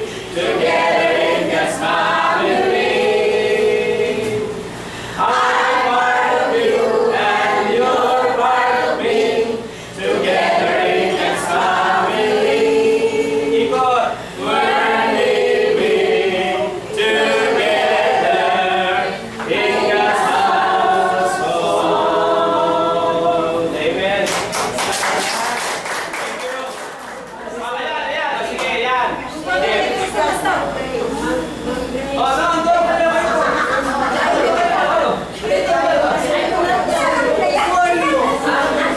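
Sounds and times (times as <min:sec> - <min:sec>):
group of people singing: 0:00.0 - 0:24.6, 0:29.3 - 0:38.9.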